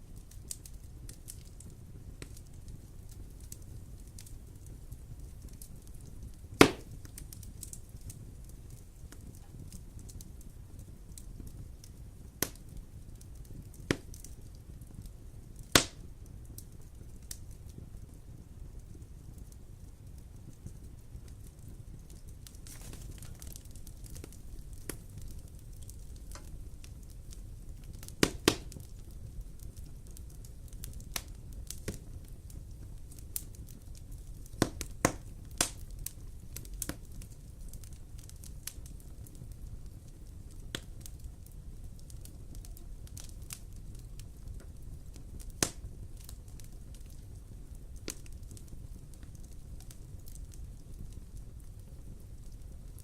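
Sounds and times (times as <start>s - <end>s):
fire crackling and popping: 0.0s - 53.0s
fire rumbling: 0.0s - 53.0s.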